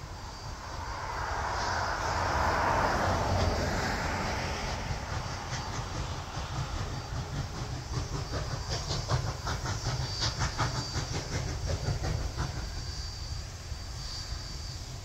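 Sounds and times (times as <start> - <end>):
steam locomotive exhaust chuffs: 0.0 - 15.0.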